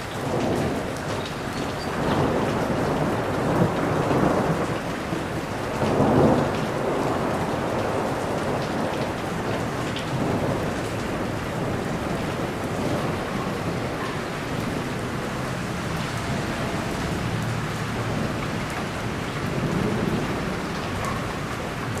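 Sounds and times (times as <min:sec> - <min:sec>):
heavy rain falling: 0:00.0 - 0:22.0
rolling thunder: 0:00.0 - 0:22.0.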